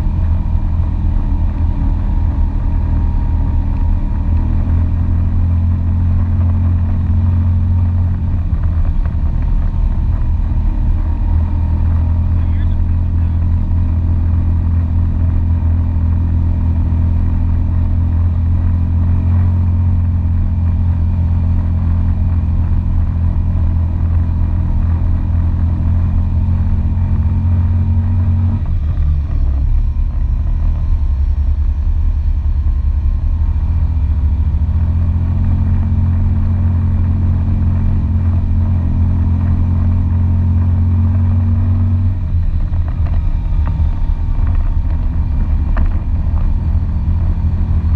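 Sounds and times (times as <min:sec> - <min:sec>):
atv engine droning: 0:00.0 - 0:47.9.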